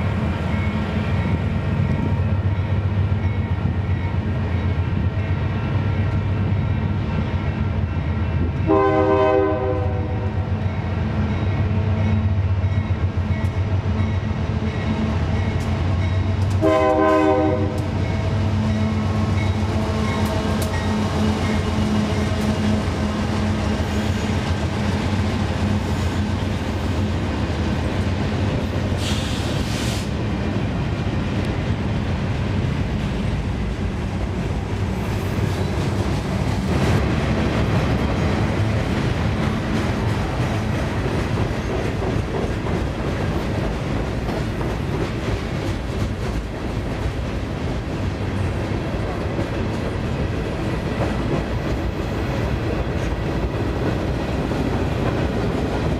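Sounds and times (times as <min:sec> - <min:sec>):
diesel locomotive engines humming: 0:00.0 - 0:55.9
train wheels rumbling on rails: 0:00.0 - 0:55.9.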